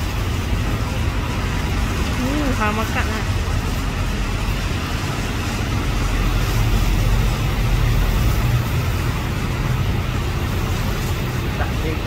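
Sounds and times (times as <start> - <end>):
passing vehicles rumbling: 0.0 - 12.0.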